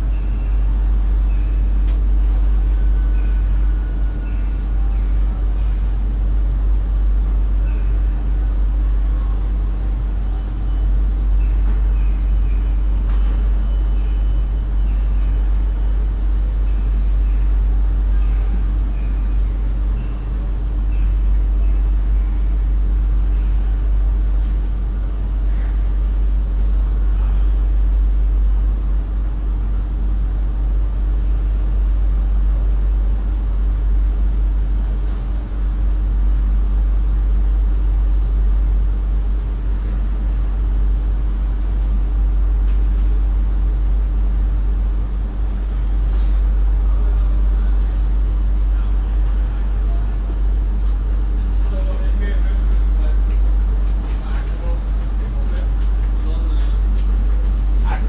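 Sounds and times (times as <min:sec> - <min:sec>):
steady mid-pitched equipment tone: 0:00.0 - 0:58.0
train low hum and rumble: 0:00.0 - 0:58.0.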